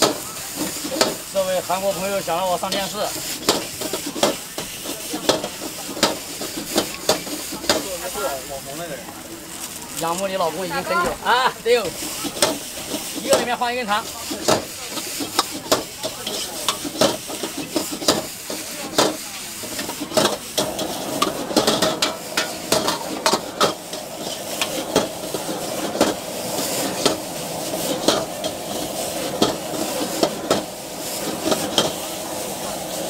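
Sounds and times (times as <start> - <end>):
metal ladle scraping wok: 0.0 - 8.6, 11.8 - 33.0
food sizzling in hot oil: 0.0 - 33.0.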